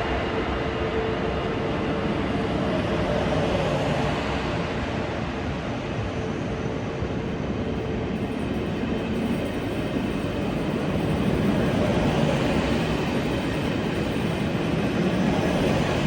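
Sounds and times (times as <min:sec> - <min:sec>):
high-speed train rolling: 0:00.0 - 0:16.0.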